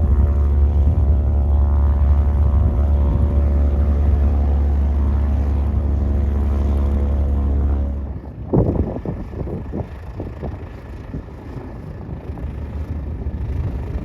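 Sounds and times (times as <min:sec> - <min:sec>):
propeller aircraft engine drone: 0:00.0 - 0:14.0
wind buffeting microphone: 0:00.0 - 0:14.0.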